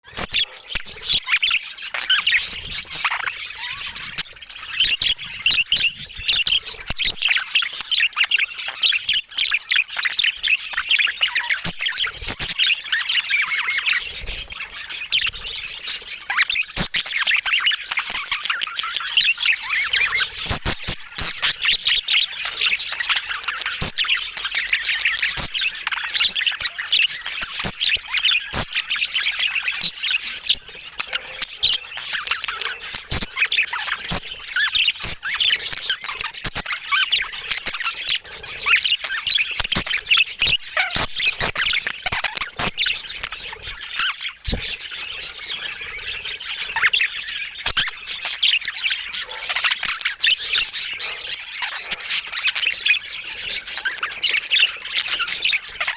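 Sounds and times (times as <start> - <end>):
budgerigars chattering: 0.0 - 55.9.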